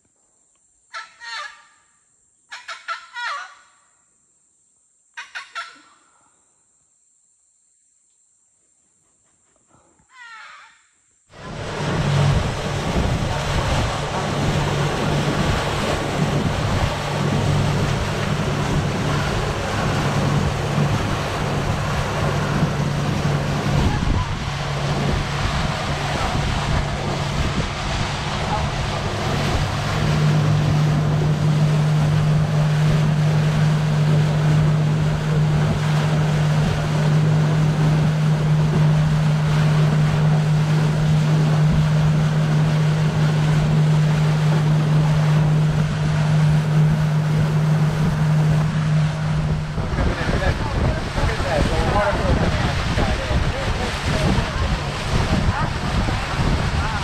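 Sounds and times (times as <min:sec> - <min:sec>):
boat engine humming: 0:11.3 - 0:57.0
water rushing past hull: 0:11.3 - 0:57.0
wind buffeting microphone: 0:11.3 - 0:57.0.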